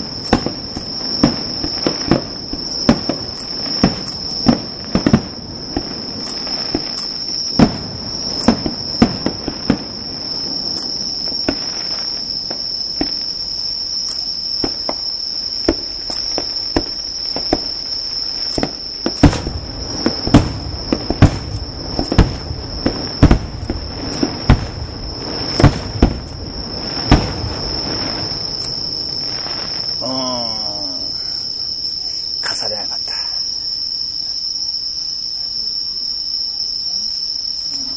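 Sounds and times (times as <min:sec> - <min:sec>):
fireworks bursting with bangs: 0:00.0 - 0:34.1
insects singing high note: 0:00.0 - 0:37.9.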